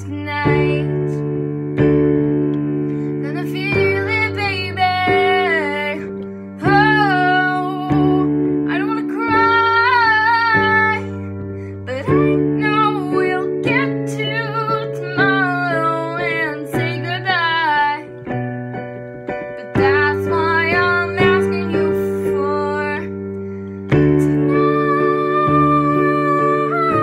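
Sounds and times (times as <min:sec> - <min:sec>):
woman singing slow melody: 0:00.0 - 0:01.5, 0:03.1 - 0:18.3, 0:19.5 - 0:27.0
piano chords: 0:00.0 - 0:27.0.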